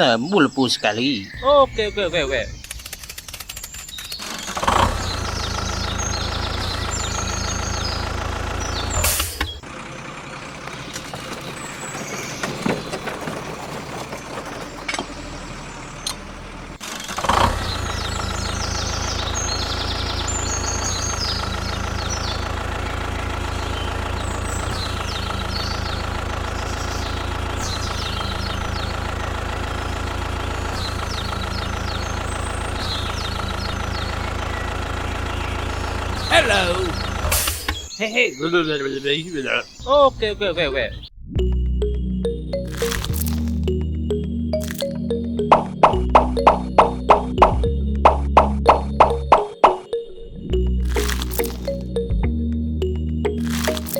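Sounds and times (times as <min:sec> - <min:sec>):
engine running: 0:00.0 - 0:38.0, 0:39.8 - 0:53.9.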